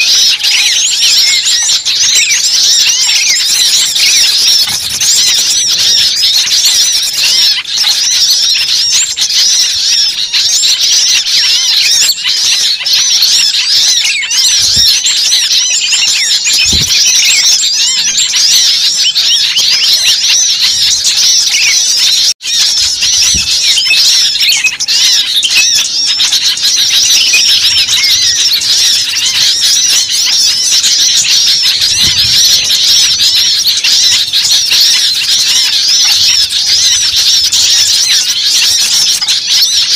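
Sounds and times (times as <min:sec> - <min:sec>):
small birds chirping and squeaking: 0:00.0 - 0:39.9.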